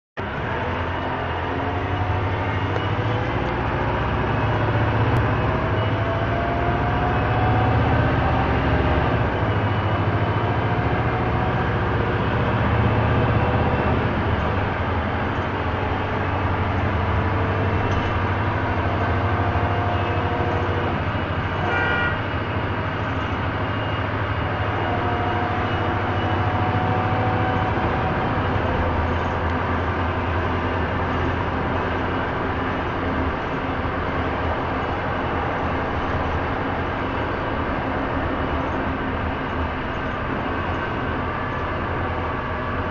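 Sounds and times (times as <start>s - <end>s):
bus engine drone: 0.2s - 42.9s.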